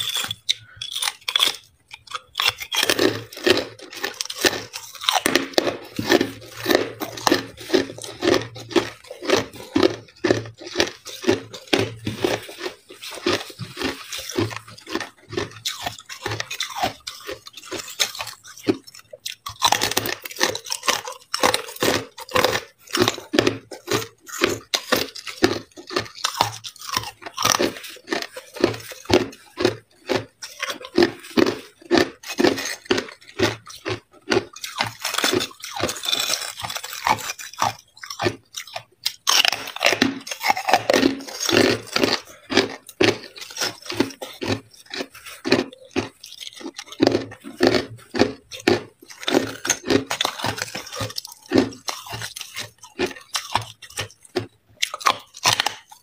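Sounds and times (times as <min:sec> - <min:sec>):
crunching ice: 0:00.0 - 0:56.0.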